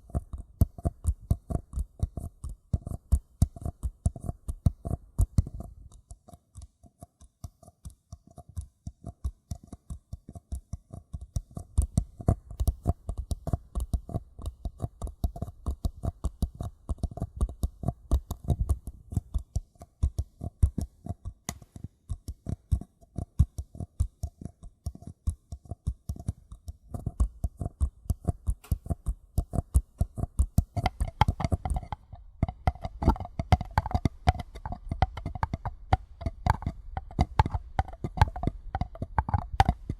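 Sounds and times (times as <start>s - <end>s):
paper cups being tapped: 0.0s - 39.9s.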